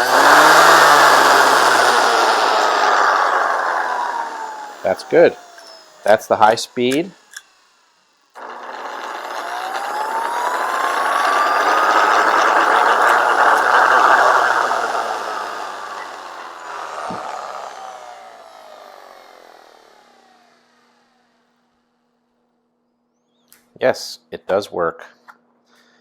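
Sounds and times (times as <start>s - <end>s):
sander motor whine: 0.0s - 21.8s.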